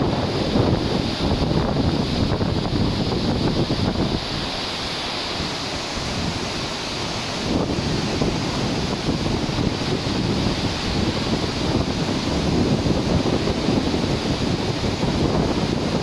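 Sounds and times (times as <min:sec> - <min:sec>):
ship's wake churning: 0:00.0 - 0:16.0
waves breaking: 0:00.0 - 0:16.0
wind buffeting microphone: 0:00.0 - 0:16.0.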